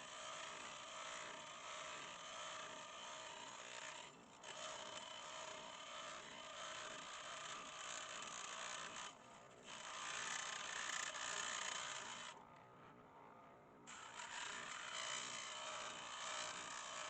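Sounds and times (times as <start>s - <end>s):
scroll saw rasping buzz: 0.2s - 12.4s, 13.9s - 17.0s.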